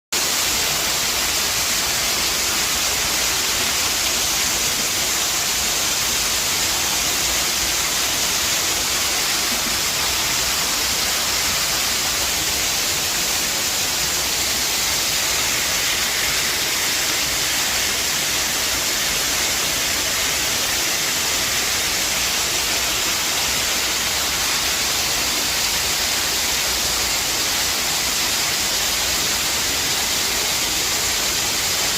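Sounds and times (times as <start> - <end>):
water rushing: 0.2 - 31.9.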